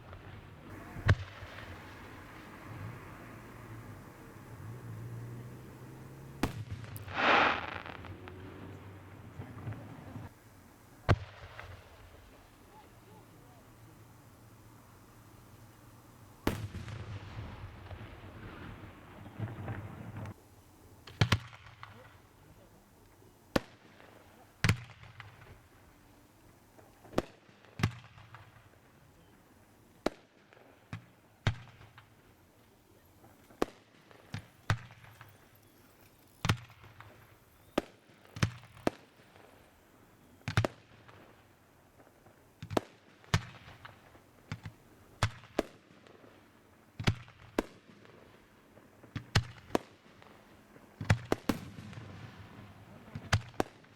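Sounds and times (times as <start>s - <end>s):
fireworks bursting: 0.0s - 20.4s, 29.9s - 53.9s.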